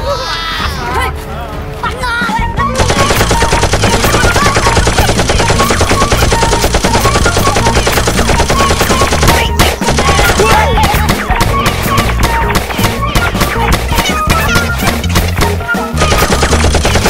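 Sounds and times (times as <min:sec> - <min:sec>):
rapid automatic gunfire: 0:02.8 - 0:17.0.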